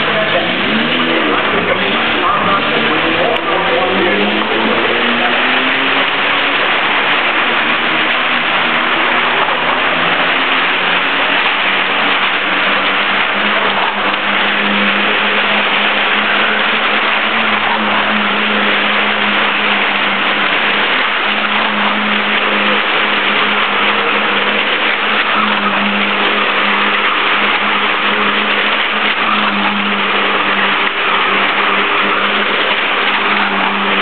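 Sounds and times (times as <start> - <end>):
car engine at steady revs: 0.0 - 34.0.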